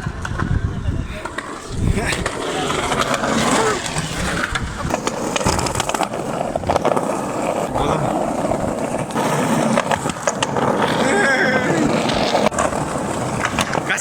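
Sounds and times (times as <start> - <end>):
skateboard clicks and knocks: 0.0 - 14.0
skateboard wheels rolling: 0.0 - 14.0.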